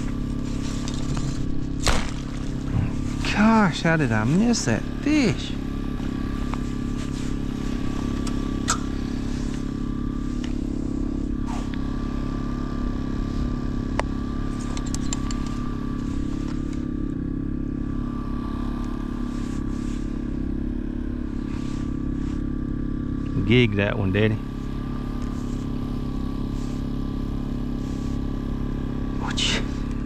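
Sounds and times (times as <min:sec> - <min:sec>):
boat engine humming: 0:00.0 - 0:30.0.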